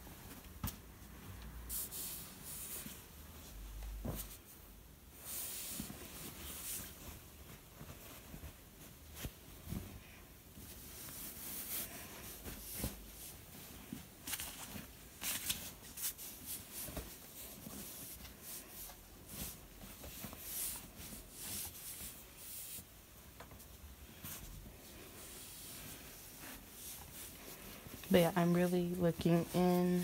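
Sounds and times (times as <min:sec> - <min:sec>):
cloth rustling: 0:00.0 - 0:30.0.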